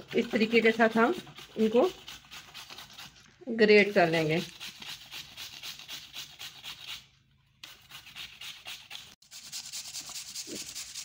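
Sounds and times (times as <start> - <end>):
pumpkin rasping on grater: 0.0 - 7.0, 7.7 - 11.0.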